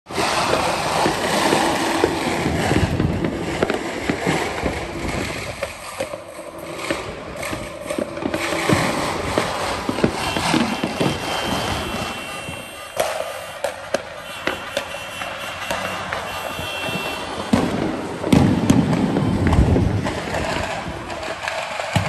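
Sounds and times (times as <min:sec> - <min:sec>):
firecracker crackle: 0:00.1 - 0:22.0
fireworks bangs and pops: 0:00.1 - 0:22.0.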